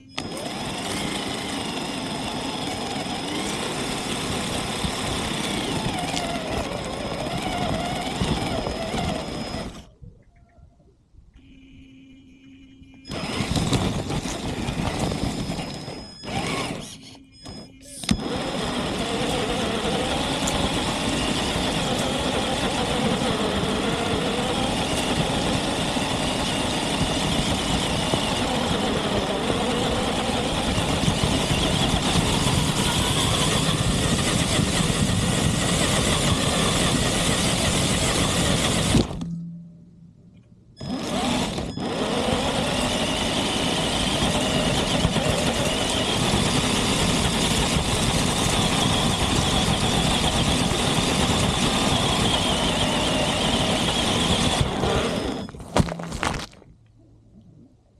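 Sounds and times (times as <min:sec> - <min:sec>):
electric motor drone: 0:00.0 - 0:09.9, 0:13.1 - 0:39.3, 0:40.8 - 0:55.5.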